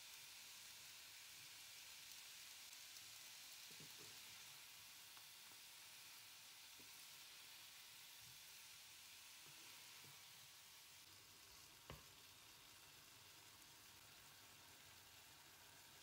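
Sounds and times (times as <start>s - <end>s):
vegetables sizzling in a frying pan: 0.0s - 16.0s.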